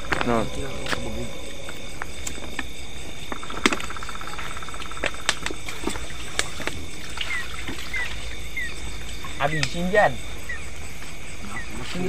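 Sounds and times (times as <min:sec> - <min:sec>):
insects droning: 0:00.0 - 0:12.0
rapid pulsing frog call: 0:00.0 - 0:12.0.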